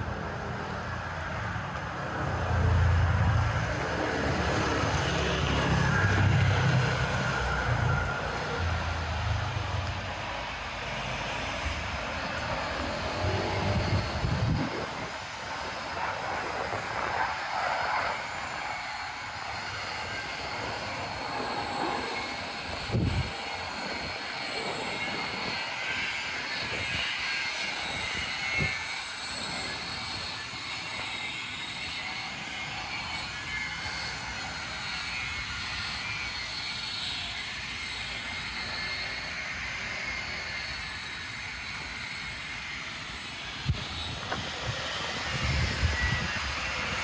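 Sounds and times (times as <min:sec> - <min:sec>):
train rumbling past: 0:00.0 - 0:47.0
faint wheel squeal: 0:05.0 - 0:09.3, 0:11.5 - 0:47.0.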